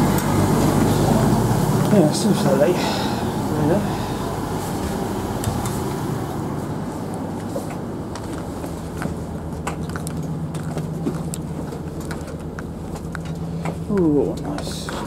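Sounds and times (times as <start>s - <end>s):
train carriage low hum: 0.0s - 15.0s.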